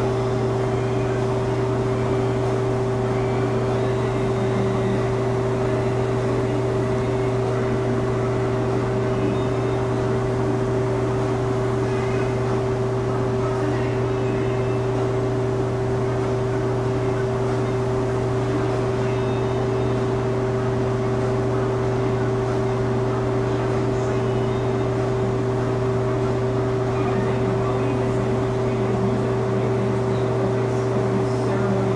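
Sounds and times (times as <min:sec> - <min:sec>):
spray booth equipment drone: 0:00.0 - 0:31.9.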